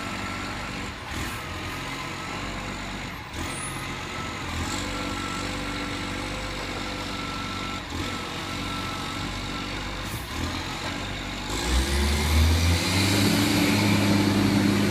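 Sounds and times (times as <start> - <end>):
garbage truck engine idling and revving: 0.0 - 14.9.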